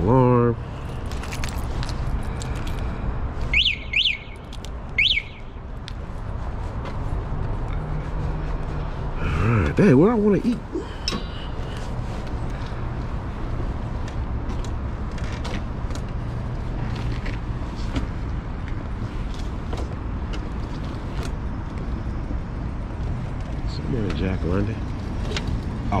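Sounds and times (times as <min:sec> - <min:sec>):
vehicle road noise rumble: 0:00.0 - 0:26.0.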